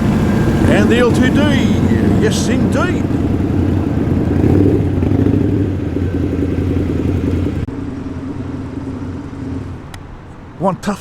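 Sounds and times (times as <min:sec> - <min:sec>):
car engine rumbling past: 0:00.0 - 0:10.6.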